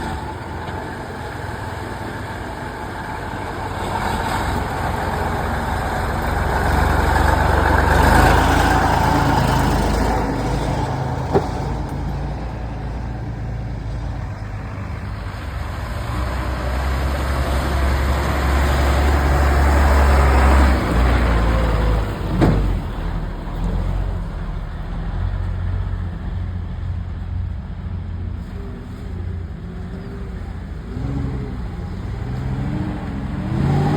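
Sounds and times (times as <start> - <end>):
heavy truck engines under load: 0.0 - 33.9.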